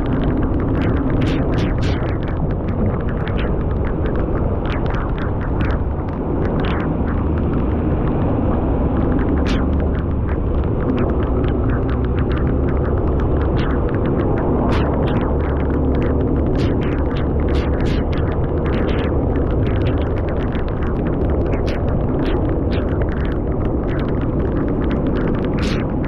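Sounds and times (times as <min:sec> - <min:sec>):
sharp ticks: 0:00.0 - 0:26.0
vehicle rumble and rush: 0:00.0 - 0:26.0.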